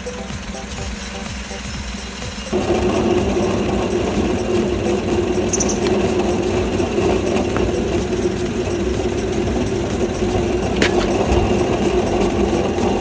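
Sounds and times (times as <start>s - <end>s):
car drivetrain humming: 0.0s - 13.0s.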